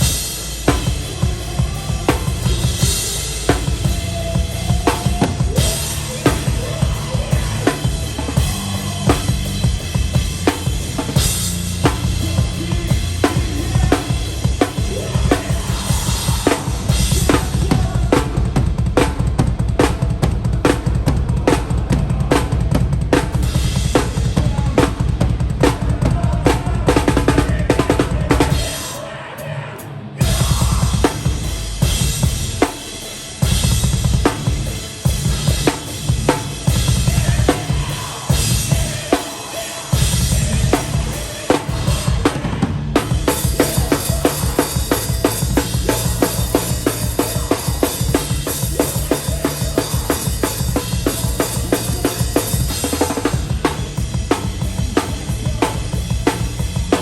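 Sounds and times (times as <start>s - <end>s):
rapid kick drum strokes: 0.0s - 29.0s, 30.2s - 57.0s
live hardcore band playing: 0.0s - 57.0s.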